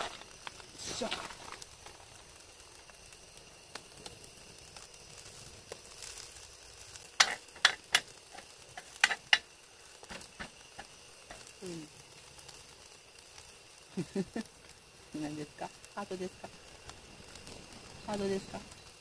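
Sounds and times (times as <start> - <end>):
rice sizzling in pan: 0.0 - 19.0.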